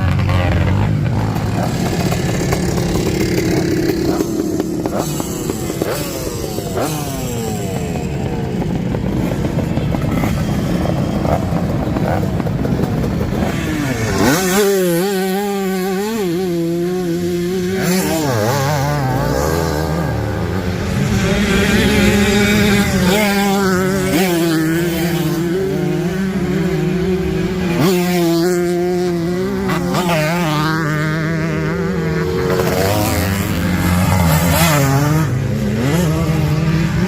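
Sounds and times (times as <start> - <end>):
racing motorcycles at high revs: 0.0 - 37.0.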